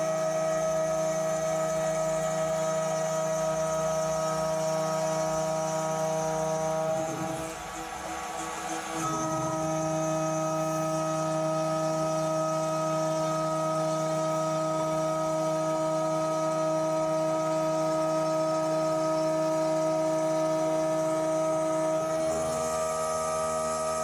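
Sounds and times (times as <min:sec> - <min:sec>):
mill cutting metal whine: 0:00.0 - 0:24.0.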